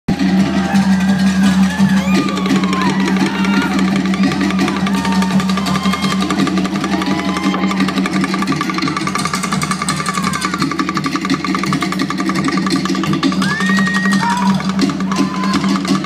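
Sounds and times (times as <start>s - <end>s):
fast rattling beat: 0.1s - 16.0s
music with drums over loudspeaker: 0.1s - 16.0s.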